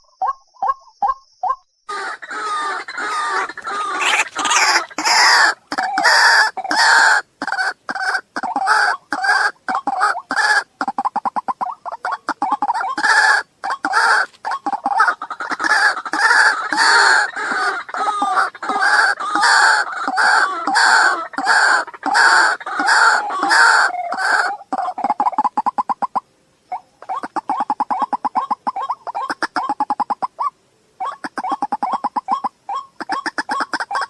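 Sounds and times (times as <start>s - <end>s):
waterhen clucking calls: 0.0s - 34.0s.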